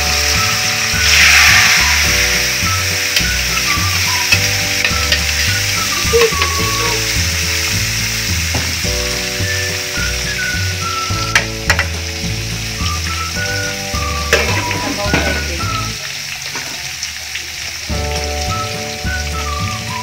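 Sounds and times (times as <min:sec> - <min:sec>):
background music: 0:00.0 - 0:16.4, 0:17.8 - 0:20.0
oil sizzling in a wok: 0:00.0 - 0:20.0.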